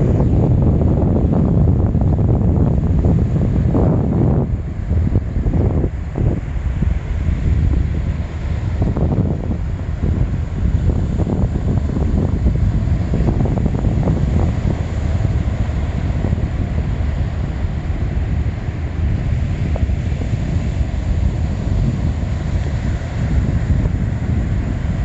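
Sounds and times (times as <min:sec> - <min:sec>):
sea surf: 0:00.0 - 0:25.0
wind buffeting microphone: 0:00.0 - 0:25.0.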